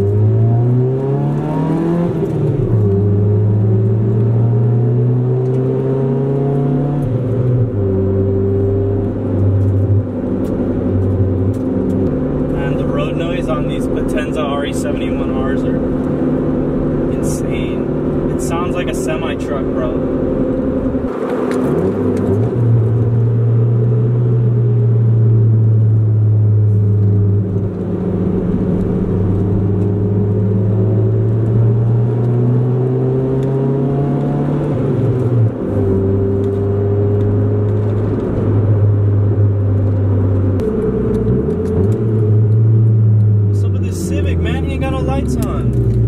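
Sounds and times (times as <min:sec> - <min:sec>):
car engine droning: 0:00.0 - 0:46.0
road noise: 0:00.0 - 0:46.0.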